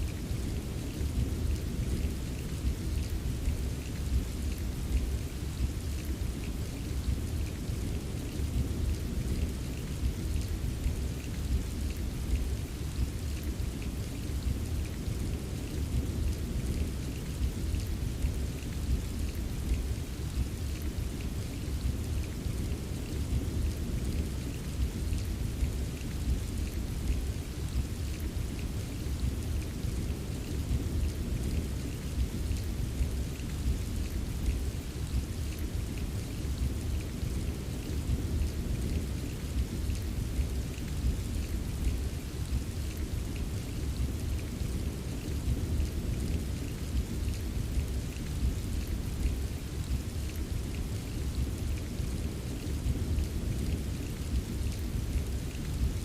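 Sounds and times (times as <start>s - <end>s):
steady rain drops ticking: 0.0s - 56.0s.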